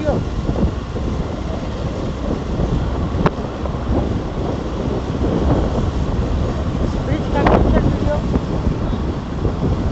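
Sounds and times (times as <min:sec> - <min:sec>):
road traffic rumble: 0:00.0 - 0:09.9
wind buffeting microphone: 0:00.0 - 0:09.9.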